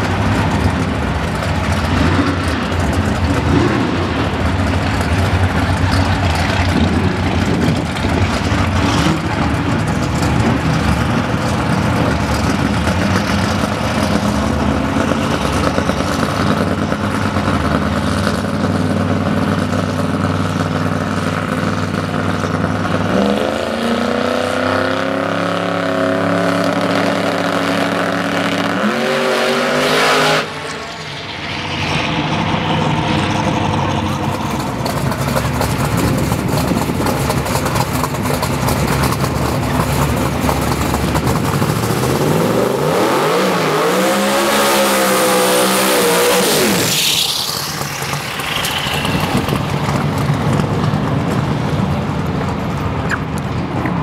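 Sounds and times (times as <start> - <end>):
drag race engine revving: 0.0 - 53.1
high engine whine: 0.0 - 54.0.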